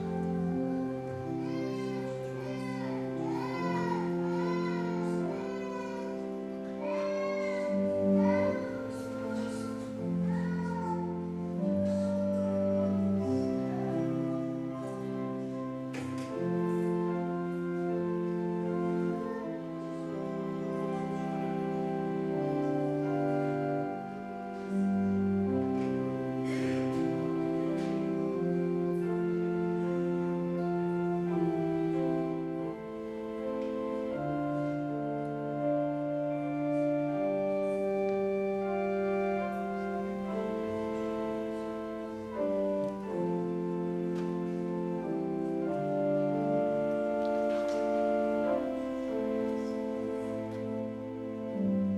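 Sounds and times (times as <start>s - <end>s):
organ playing slow chords: 0.0s - 51.9s.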